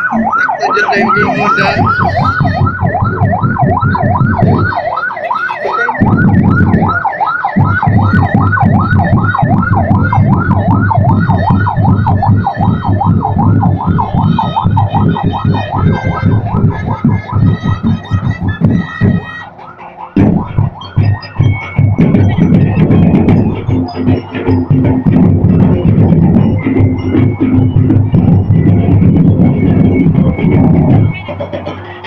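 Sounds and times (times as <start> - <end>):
ambulance siren yelping: 0.0 - 32.0.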